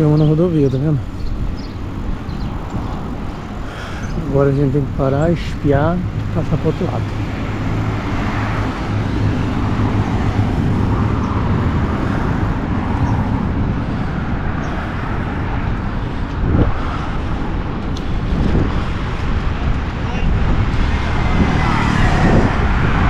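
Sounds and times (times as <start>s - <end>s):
highway traffic passing: 0.0s - 23.0s.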